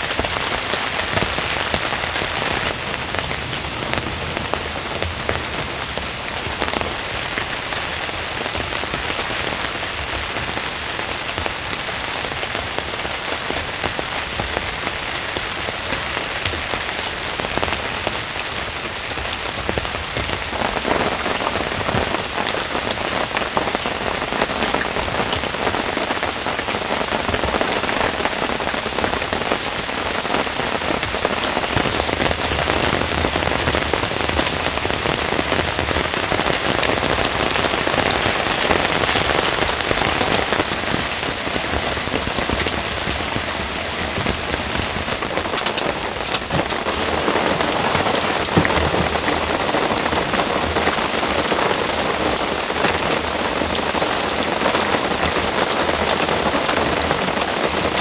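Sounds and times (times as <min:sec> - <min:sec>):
heavy rain in forest: 0:00.0 - 0:58.0.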